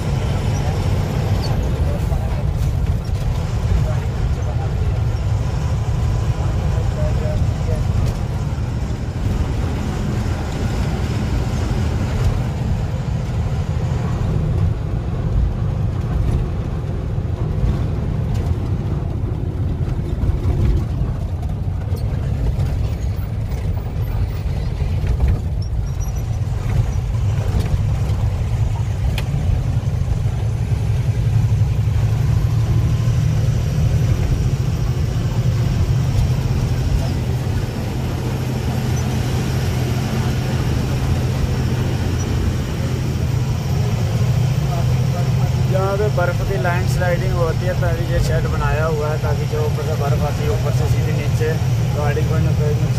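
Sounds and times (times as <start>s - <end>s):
road noise: 0.0s - 52.9s
truck engine low rumble: 0.0s - 52.9s.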